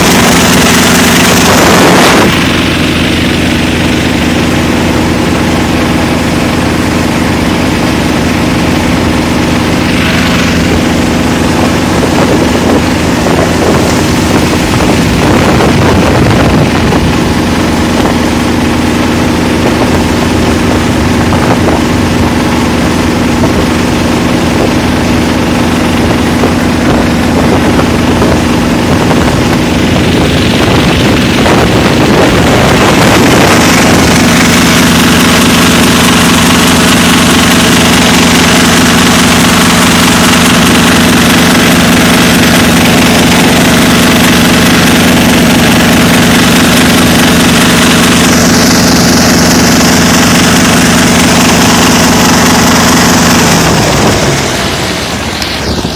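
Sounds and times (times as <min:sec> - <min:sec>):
boat motor running: 0:00.0 - 0:55.9.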